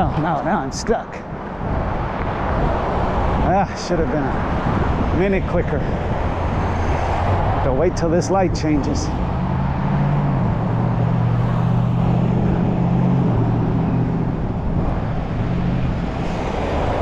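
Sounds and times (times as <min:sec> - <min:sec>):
cars driving by: 0:00.0 - 0:17.0
low engine hum: 0:00.0 - 0:17.0.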